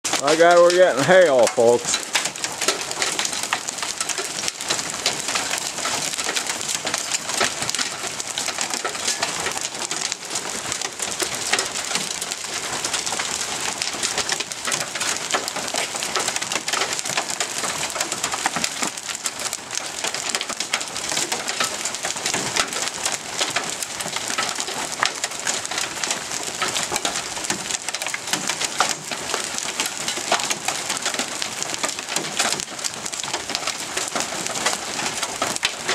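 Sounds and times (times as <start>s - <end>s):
small hail and rain falling: 0.0s - 35.9s.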